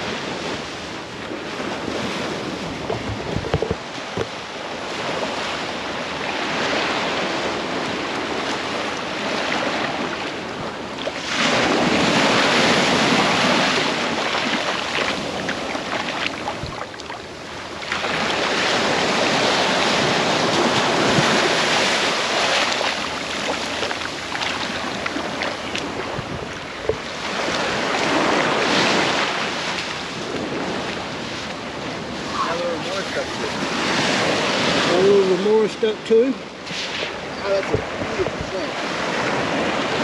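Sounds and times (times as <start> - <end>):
surf breaking on beach: 0.0 - 40.0.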